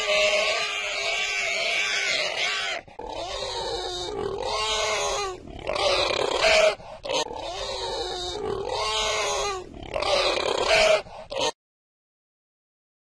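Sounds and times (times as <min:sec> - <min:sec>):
pig grunting: 0:00.0 - 0:11.6
pig short sharp calls: 0:00.0 - 0:11.6.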